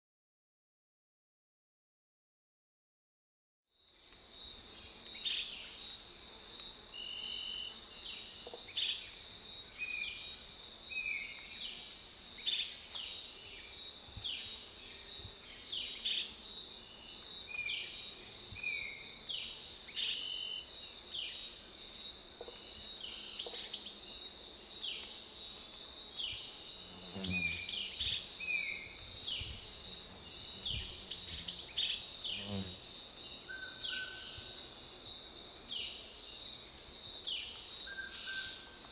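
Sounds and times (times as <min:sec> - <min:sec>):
insect chirps: 0:03.7 - 0:38.9
insects trilling: 0:03.7 - 0:38.9.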